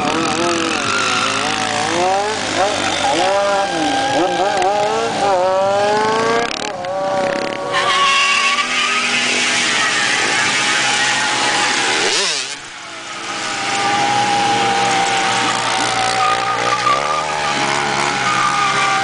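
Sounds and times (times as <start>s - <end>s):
motorcycle engine at high revs: 0.0s - 19.0s.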